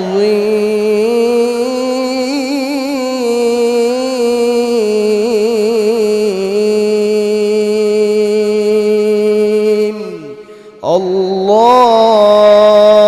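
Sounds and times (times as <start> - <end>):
person chanting melodically: 0.0 - 13.0.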